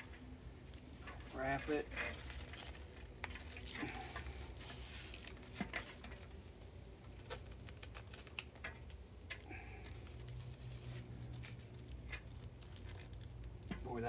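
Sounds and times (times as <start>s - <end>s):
tape handling clicks and crinkles: 0.0s - 14.0s.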